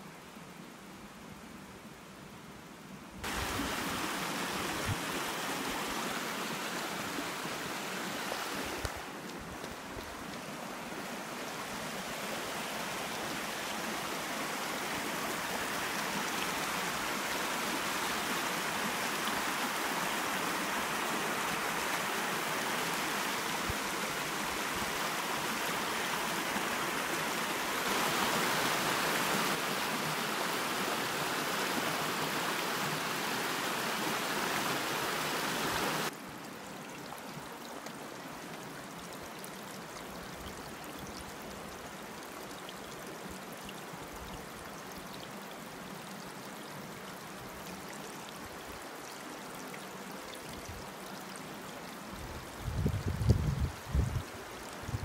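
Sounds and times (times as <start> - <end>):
stream rushing over stones: 3.2 - 55.0.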